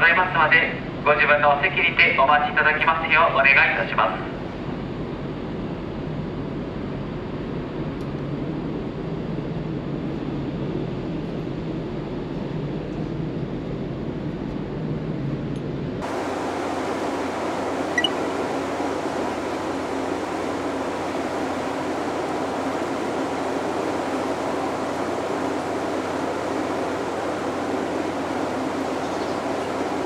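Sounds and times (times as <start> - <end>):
ferry engine drone: 0.0 - 30.0.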